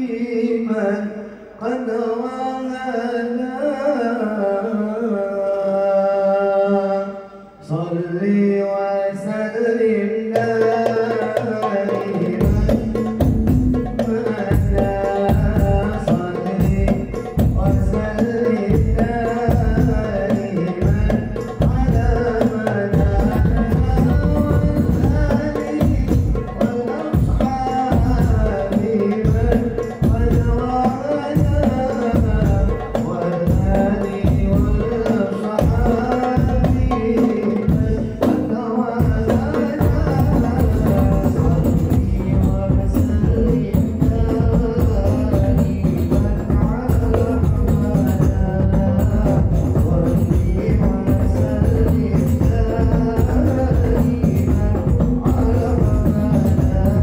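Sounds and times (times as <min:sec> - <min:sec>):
people singing: 0:00.0 - 0:57.0
frame drums and bass drum: 0:10.4 - 0:57.0.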